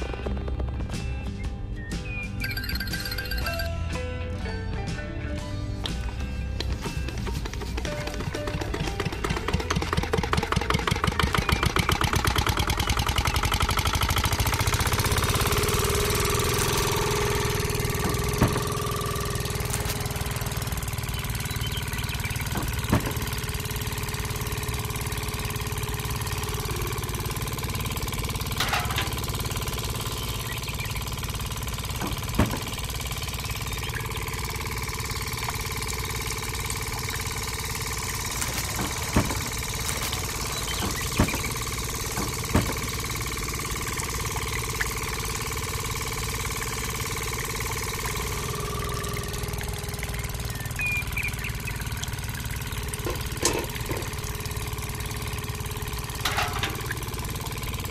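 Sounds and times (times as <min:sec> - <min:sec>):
engine running: 0:00.0 - 0:57.9.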